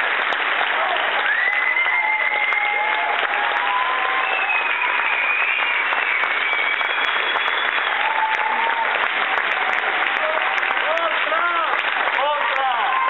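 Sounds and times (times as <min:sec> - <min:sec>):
audience applauding: 0:00.0 - 0:13.0
high cheers: 0:00.1 - 0:13.0.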